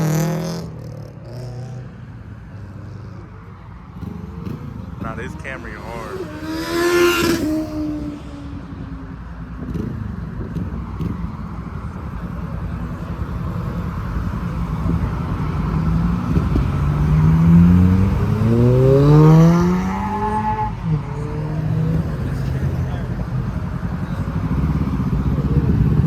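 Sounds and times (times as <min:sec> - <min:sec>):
car engine revving: 0:03.8 - 0:26.0.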